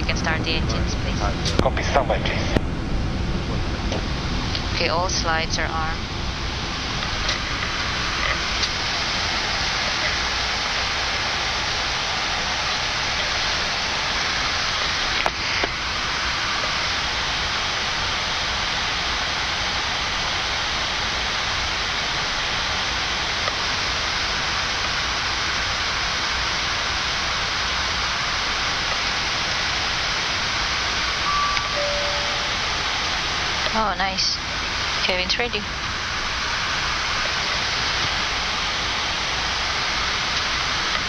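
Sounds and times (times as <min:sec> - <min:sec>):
air-conditioning and fans hissing: 0:00.0 - 0:41.0.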